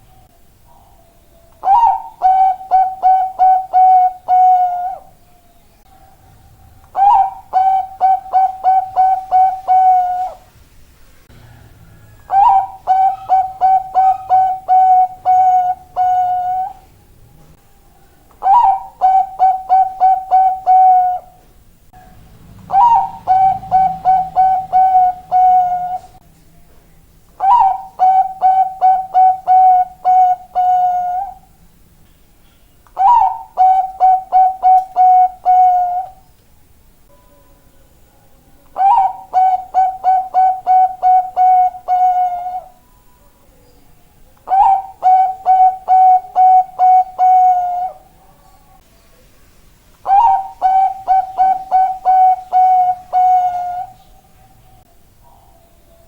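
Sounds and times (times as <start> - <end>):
dove cooing: 0.0 - 5.2, 5.9 - 10.5, 11.4 - 16.9, 18.0 - 26.2, 27.4 - 31.6, 33.0 - 36.2, 38.8 - 42.8, 44.4 - 48.8, 50.0 - 56.0.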